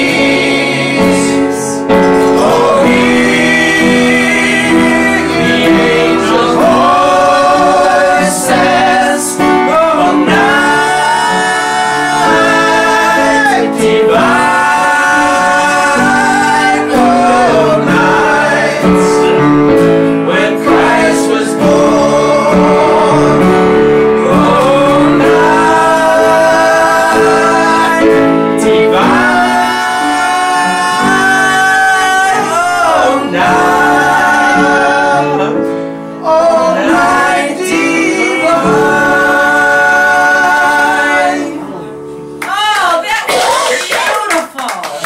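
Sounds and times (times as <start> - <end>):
group singing a carol: 0.0 - 42.4
acoustic guitar: 0.0 - 43.8
piano: 0.0 - 45.0.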